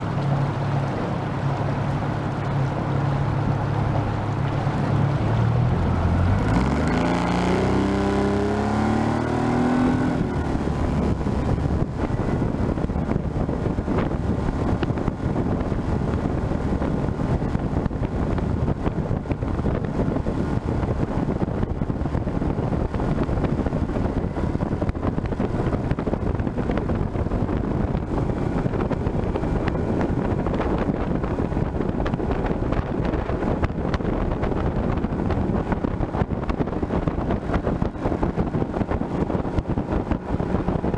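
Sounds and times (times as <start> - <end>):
outboard motor revving: 0.0 - 40.9.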